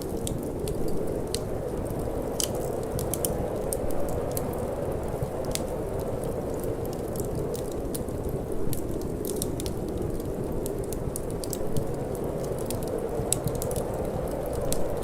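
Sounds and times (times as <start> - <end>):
low rush of wind: 0.0 - 15.0
wood fire crackling and popping: 0.0 - 15.0.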